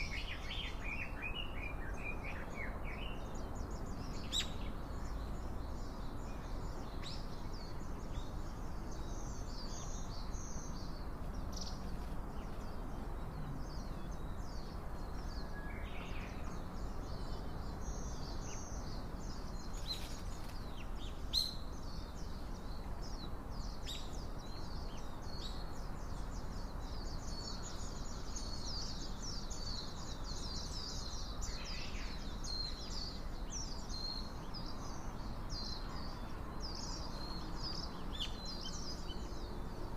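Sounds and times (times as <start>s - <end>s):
small birds chirping: 0.0s - 39.9s
steady low background noise: 0.0s - 39.9s.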